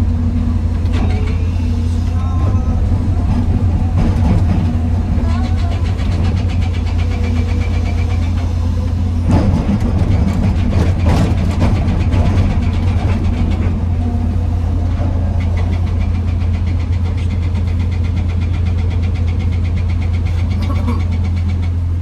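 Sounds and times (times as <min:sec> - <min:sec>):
excavator diesel engine running: 0:00.0 - 0:22.0
machine clatter: 0:00.8 - 0:21.9.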